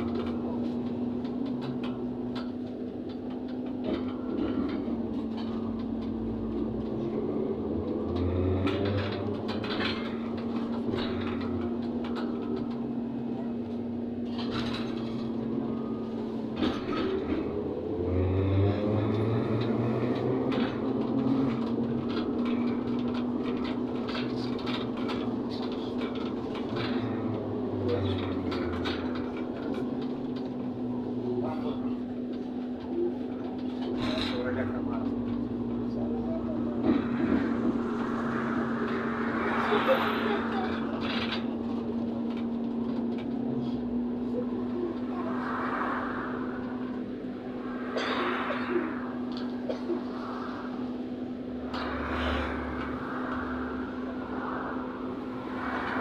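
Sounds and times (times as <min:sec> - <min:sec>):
road rumble: 0:00.0 - 0:56.0.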